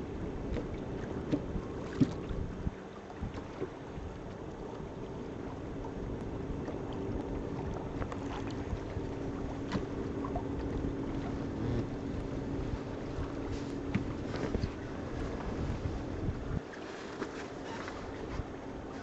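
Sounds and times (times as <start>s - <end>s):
wind on microphone: 0.0s - 4.3s, 5.2s - 16.7s
steady low hum: 0.0s - 16.7s
water rushing past hull: 0.0s - 19.0s.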